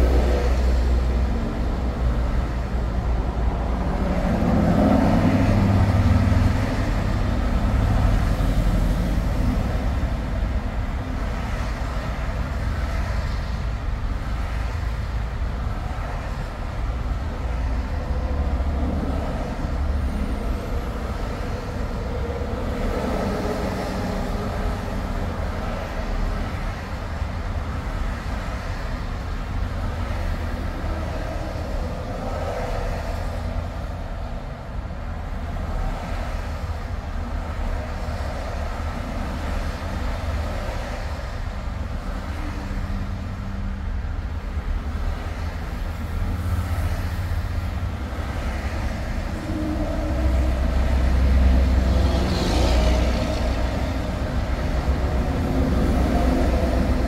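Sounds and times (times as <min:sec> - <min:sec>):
highway traffic rumble: 0:00.0 - 0:57.0.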